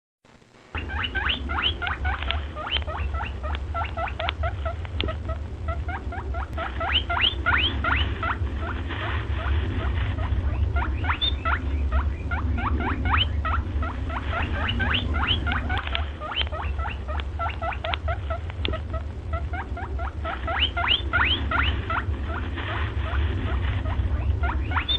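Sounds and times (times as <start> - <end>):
low hum: 0.3 - 24.9
small animals squeaking: 0.8 - 24.9.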